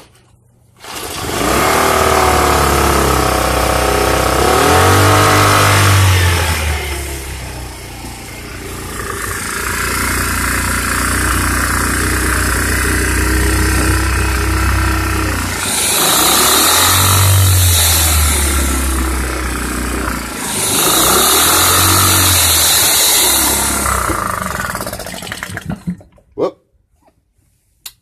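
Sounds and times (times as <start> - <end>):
portable generator running: 0.8 - 26.1.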